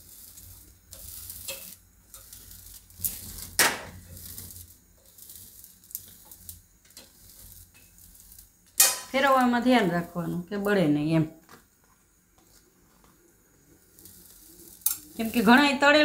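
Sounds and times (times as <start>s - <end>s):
papad crackling and hissing: 0.0s - 16.0s.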